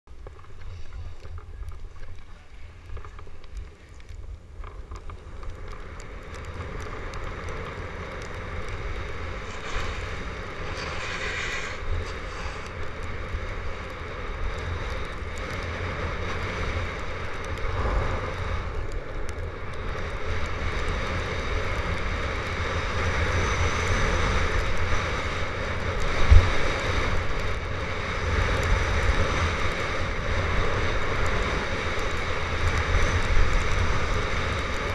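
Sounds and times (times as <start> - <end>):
skis scraping over packed snow: 0.1 - 34.9.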